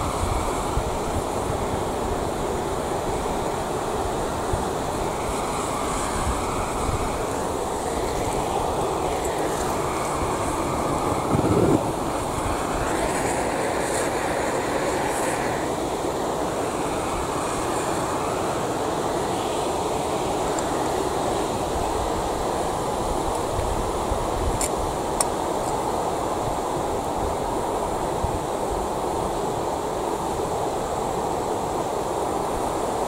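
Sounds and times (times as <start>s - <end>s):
gas torch hissing: 0.0s - 33.0s.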